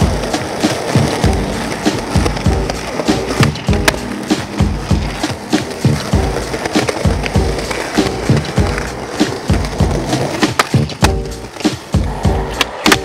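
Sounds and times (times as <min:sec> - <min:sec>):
background music with drum beat: 0:00.0 - 0:13.0.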